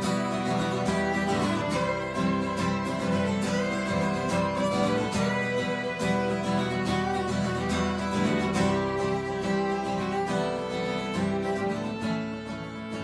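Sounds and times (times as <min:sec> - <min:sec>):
fiddle: 0:00.0 - 0:13.0
strummed acoustic guitar: 0:00.0 - 0:13.0.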